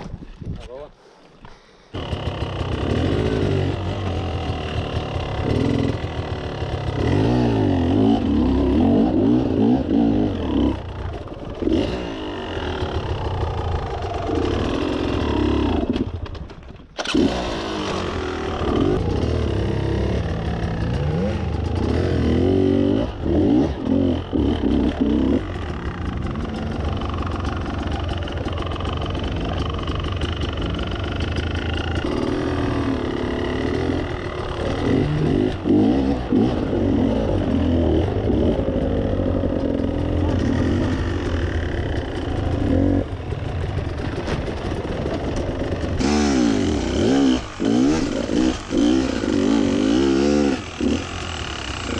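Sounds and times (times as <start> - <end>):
dirt bike engine revving: 2.0 - 16.2, 17.0 - 51.9.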